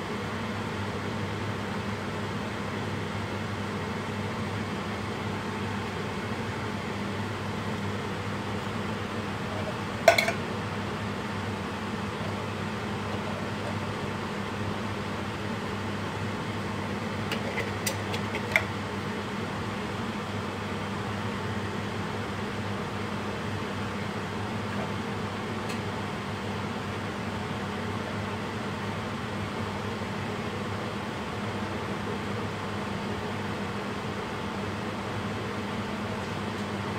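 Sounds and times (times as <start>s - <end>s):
steady mechanical hum: 0.0s - 36.9s.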